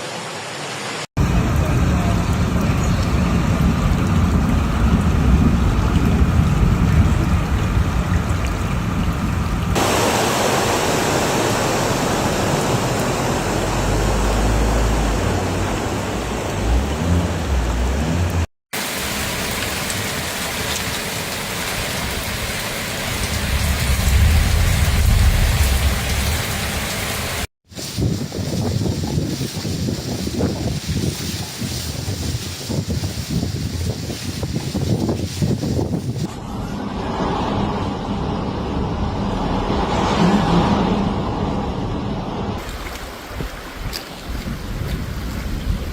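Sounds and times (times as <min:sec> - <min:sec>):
heavy rain pouring: 0:00.0 - 0:36.3, 0:42.6 - 0:45.9
low rumbles: 0:01.2 - 0:18.5, 0:22.0 - 0:31.2, 0:32.0 - 0:45.9.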